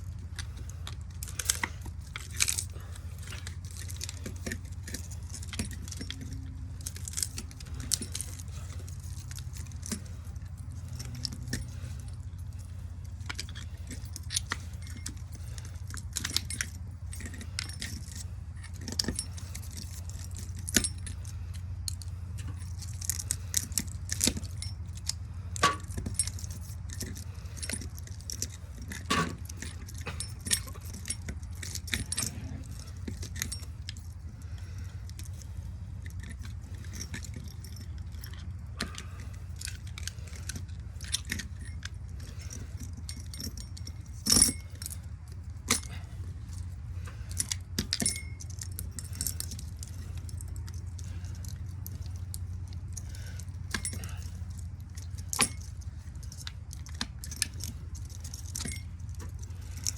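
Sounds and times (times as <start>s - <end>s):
hand tools clinking on metal: 0.0s - 59.9s
steady low hum: 0.0s - 59.9s.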